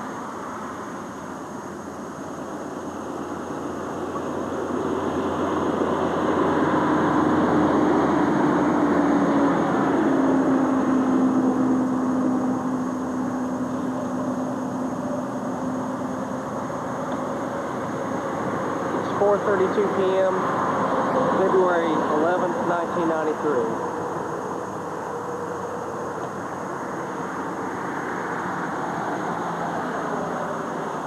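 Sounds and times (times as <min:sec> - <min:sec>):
road noise: 0:00.0 - 0:31.0
vehicle engine: 0:00.0 - 0:31.0.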